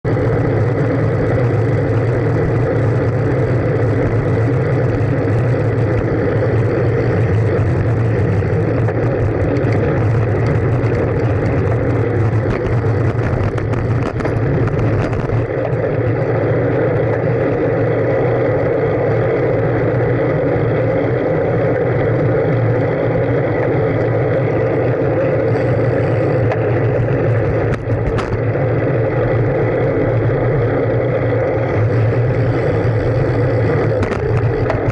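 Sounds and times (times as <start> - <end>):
bicycle road rumble: 0.0 - 34.9
wind noise: 0.0 - 34.9.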